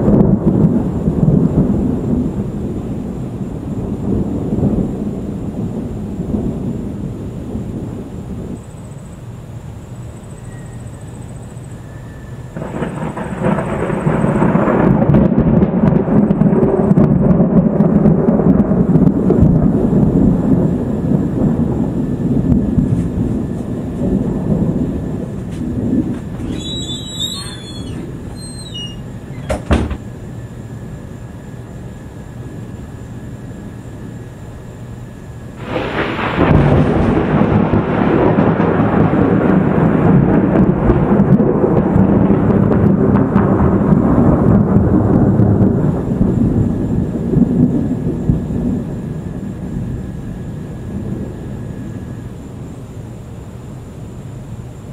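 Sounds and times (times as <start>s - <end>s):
thunder rumbling: 0.0s - 53.2s.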